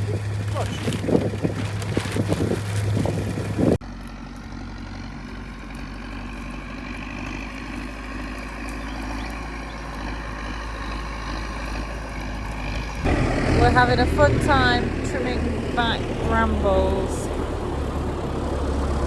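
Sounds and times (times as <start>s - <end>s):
rough crackling sound: 0.0s - 16.9s
machine engine running: 0.0s - 19.0s.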